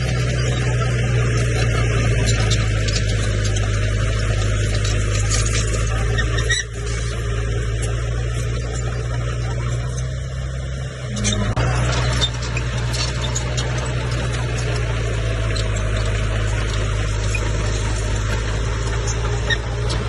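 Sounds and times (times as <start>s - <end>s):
bulldozer diesel engine: 0.0s - 20.0s.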